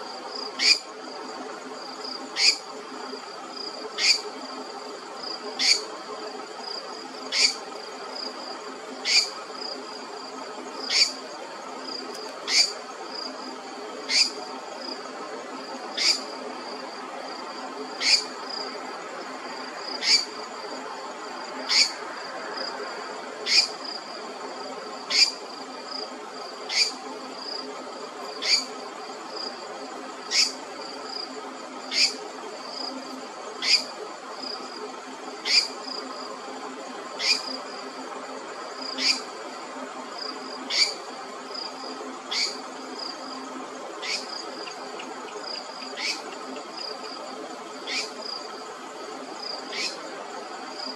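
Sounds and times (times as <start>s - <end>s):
night insects trilling: 0.0s - 50.9s.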